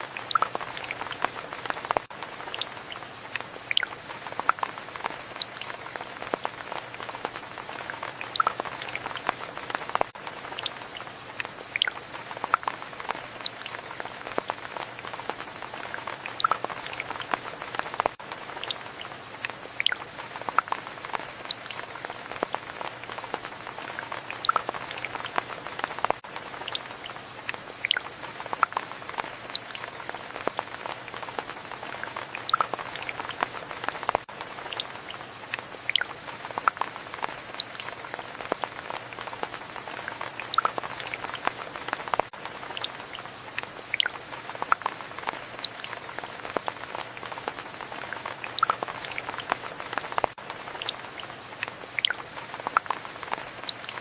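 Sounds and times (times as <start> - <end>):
rain falling: 0.0 - 54.0
raindrops pattering close by: 0.0 - 54.0.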